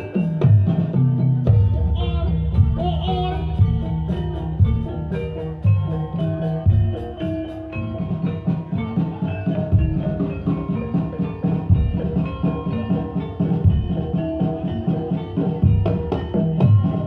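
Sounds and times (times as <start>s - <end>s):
drums: 0.0s - 17.0s
metallophones playing melody: 0.0s - 17.0s.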